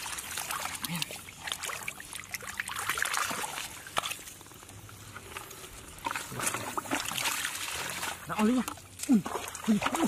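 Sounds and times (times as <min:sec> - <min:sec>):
hands sloshing in muddy water: 0:00.0 - 0:10.0
short splashes and crackles: 0:00.0 - 0:10.0.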